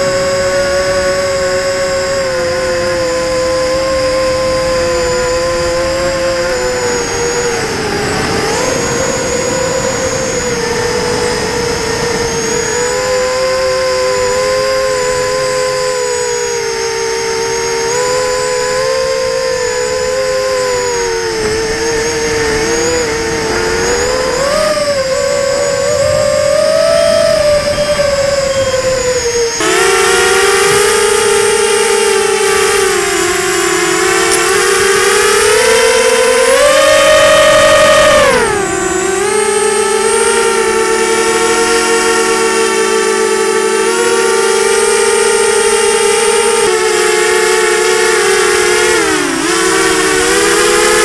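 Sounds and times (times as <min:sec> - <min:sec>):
quadcopter propellers buzzing: 0:00.0 - 0:51.0.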